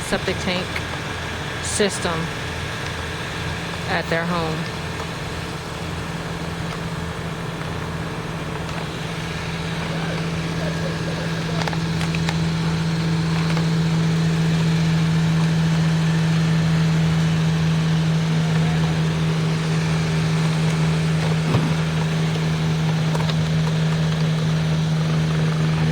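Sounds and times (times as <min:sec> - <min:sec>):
vacuum pump truck running: 0:00.0 - 0:25.9.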